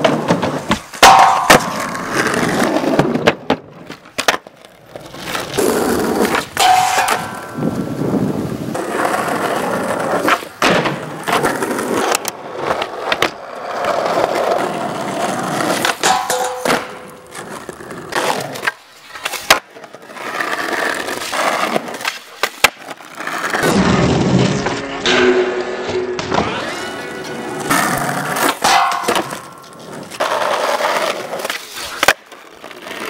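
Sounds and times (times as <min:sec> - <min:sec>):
skateboard tail popping: 0:00.0 - 0:24.8, 0:27.4 - 0:33.0
skateboard wheels rolling on asphalt: 0:00.0 - 0:24.8, 0:26.2 - 0:33.0
skateboard slapping down: 0:00.0 - 0:33.0.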